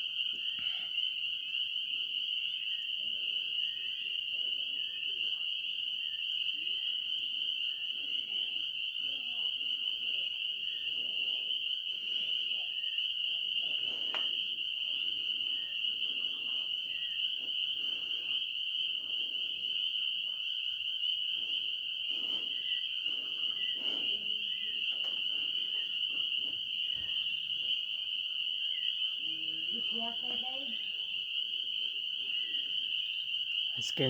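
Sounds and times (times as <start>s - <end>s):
high trill of frogs and insects: 0.0s - 34.0s.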